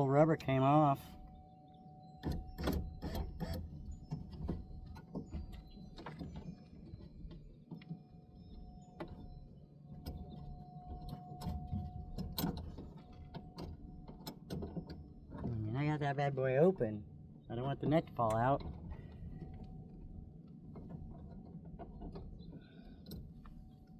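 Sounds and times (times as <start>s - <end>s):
faint steady tone: 0.0s - 15.8s, 16.4s - 23.9s.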